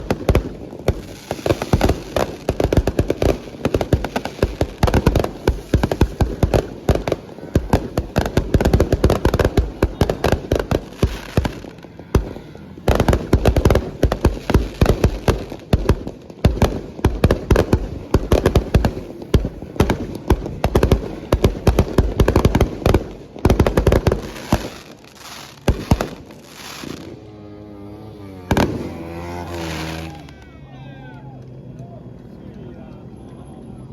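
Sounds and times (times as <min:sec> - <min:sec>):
fireworks barrage of bangs: 0:00.0 - 0:27.2, 0:28.3 - 0:30.4.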